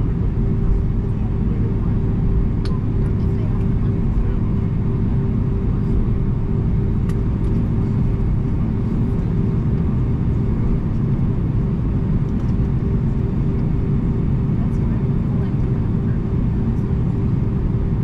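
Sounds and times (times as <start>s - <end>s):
jet engines idling in cabin: 0.0s - 18.0s.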